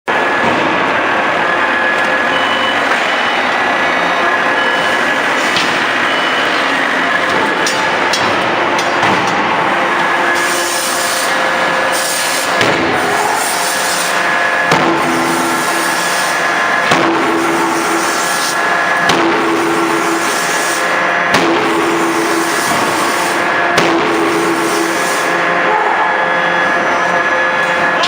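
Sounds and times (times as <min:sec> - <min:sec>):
forging hammer blows: 0:00.1 - 0:28.0
hydraulic machinery running: 0:00.1 - 0:28.0.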